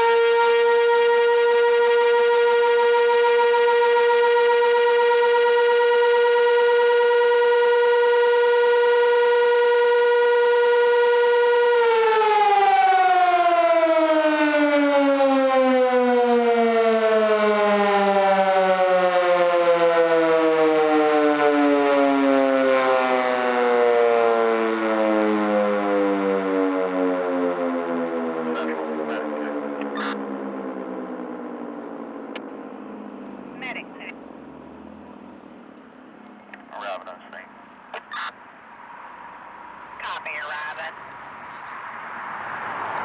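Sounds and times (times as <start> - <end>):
warning siren winding down: 0.0 - 38.4.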